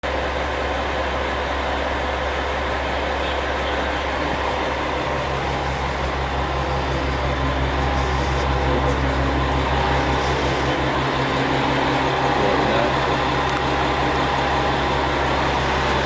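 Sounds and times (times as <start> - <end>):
diesel train rumbling: 0.0 - 16.0
higher hum: 2.8 - 16.0.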